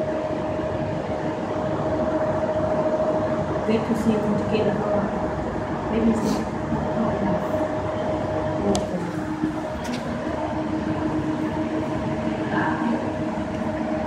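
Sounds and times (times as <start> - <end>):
background hum and rumble: 0.0 - 14.0.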